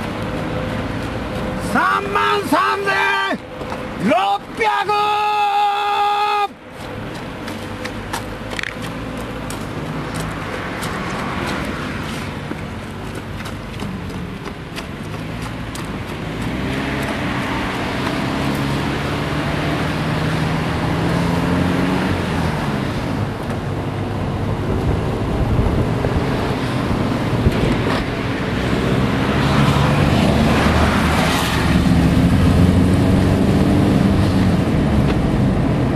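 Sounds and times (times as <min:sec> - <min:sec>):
road and tyre rumble: 0:00.0 - 0:35.9.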